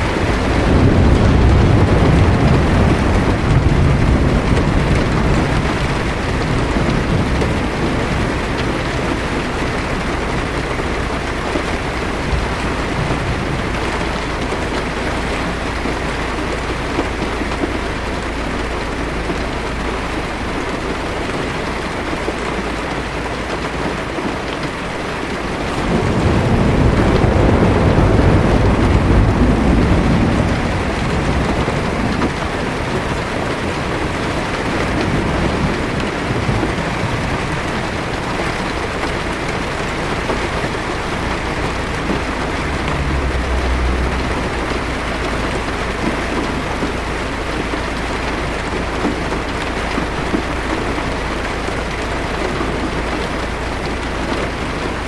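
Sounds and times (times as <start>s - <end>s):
low rumble: 0.0s - 22.3s, 24.9s - 49.0s
thunder rolling: 0.0s - 22.6s, 24.9s - 55.0s
heavy rain on car roof: 0.0s - 55.0s.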